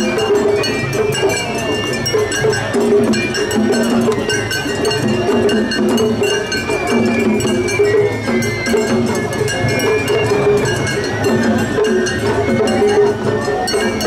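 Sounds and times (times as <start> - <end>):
bamboo flute melody: 0.0 - 14.0
crowd voices: 0.0 - 14.0
drums: 0.0 - 14.0
small gong clanging rapidly: 0.0 - 14.0.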